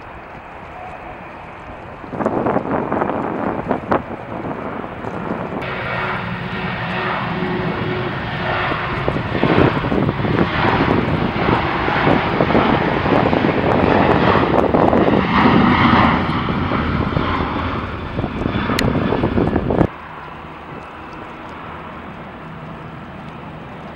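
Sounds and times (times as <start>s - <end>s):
jet airliner engines rushing: 0.0s - 23.9s.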